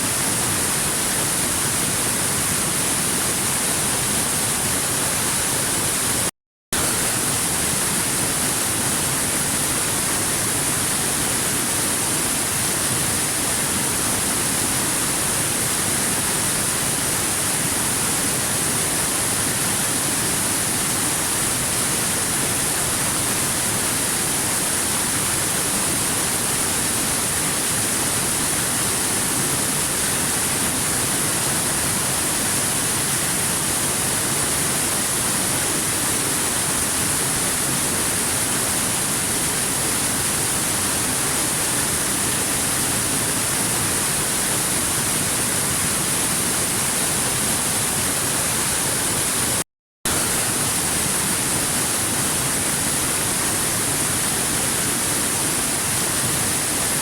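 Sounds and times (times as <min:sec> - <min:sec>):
waterfall rushing: 0:00.1 - 0:57.0.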